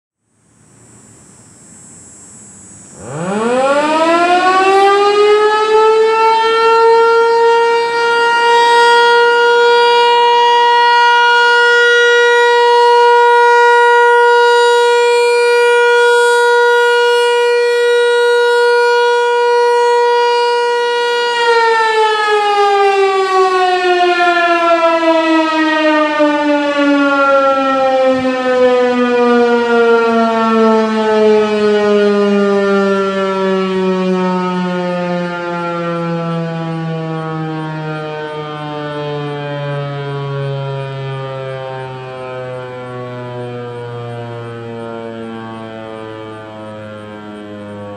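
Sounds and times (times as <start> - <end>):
tornado siren wailing: 2.3 - 47.9.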